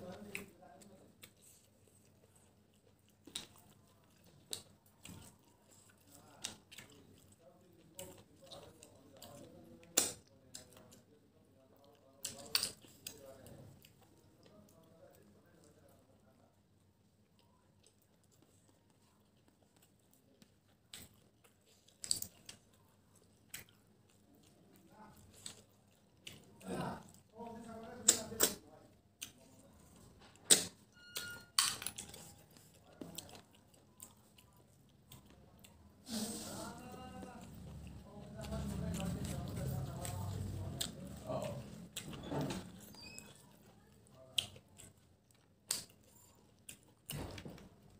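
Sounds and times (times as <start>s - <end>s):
sucking and smacking while eating: 0.0s - 15.9s, 17.2s - 47.9s.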